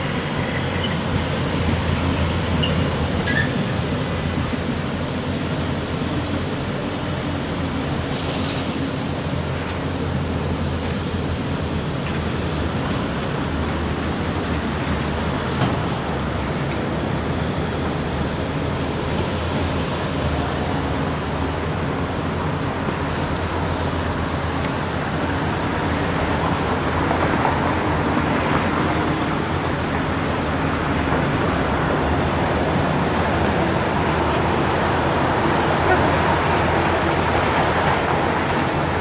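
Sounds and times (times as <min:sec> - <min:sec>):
city traffic hiss: 0:00.0 - 0:39.0.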